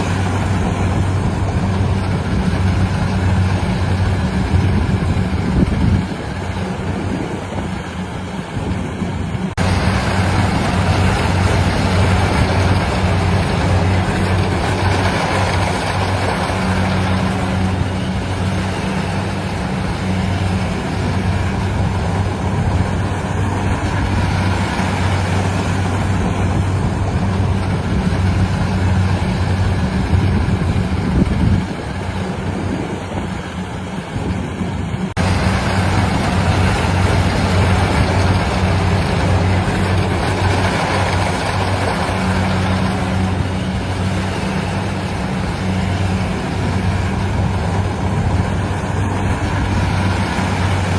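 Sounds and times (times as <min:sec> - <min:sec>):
harvesting machine engine running: 0:00.0 - 0:50.9.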